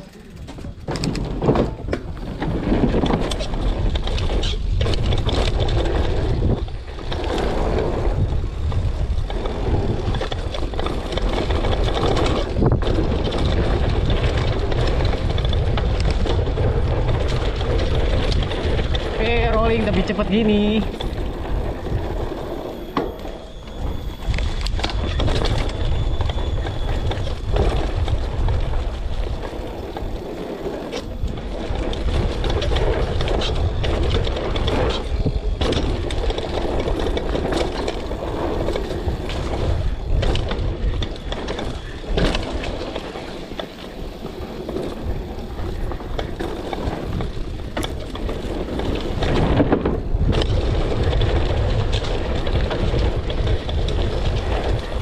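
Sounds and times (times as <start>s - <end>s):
bike rattling and knocking: 0.0s - 55.0s
tyres on dirt: 0.0s - 55.0s
wind rumble on microphone: 0.0s - 55.0s.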